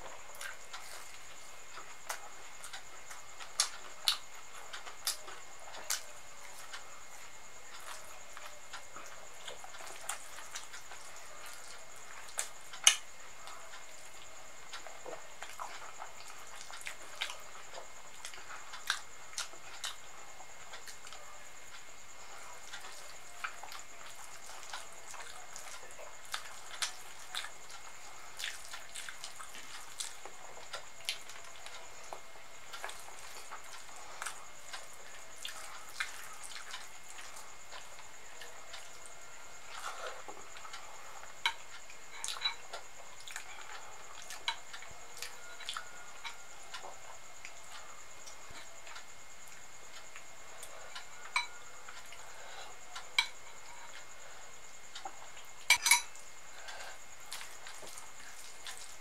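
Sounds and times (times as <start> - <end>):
steady high-pitched hiss: 0.0 - 59.0.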